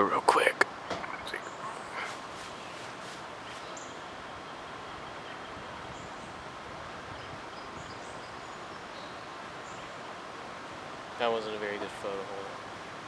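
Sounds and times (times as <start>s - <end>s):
light breeze: 0.0s - 13.0s.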